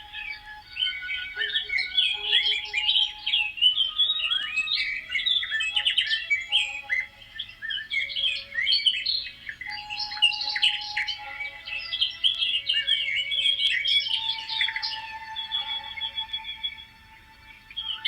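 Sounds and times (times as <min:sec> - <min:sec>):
small birds chirping and twittering: 0:00.0 - 0:18.0.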